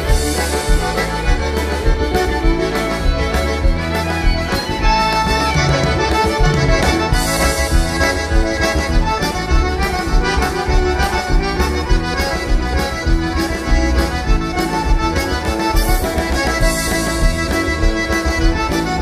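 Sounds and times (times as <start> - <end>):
lively music with steady beat: 0.0 - 19.0.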